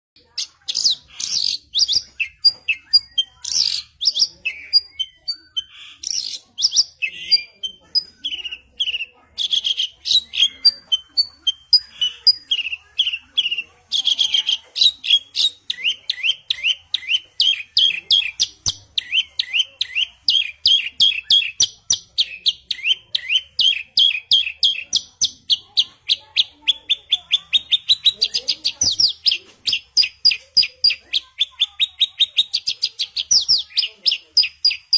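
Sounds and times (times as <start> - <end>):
lark singing: 0.2 - 34.9.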